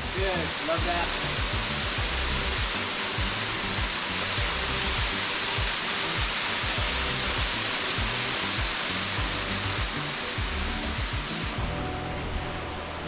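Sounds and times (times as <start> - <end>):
background music with steady beat: 0.0 - 13.0
light rain: 0.0 - 13.0
waterfall rushing: 0.0 - 13.0.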